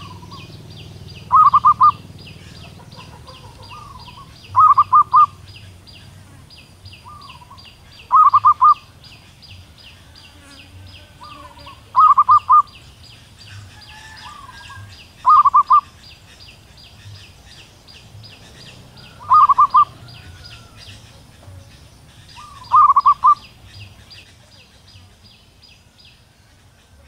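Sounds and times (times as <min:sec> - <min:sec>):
dove calling: 0:00.0 - 0:27.0.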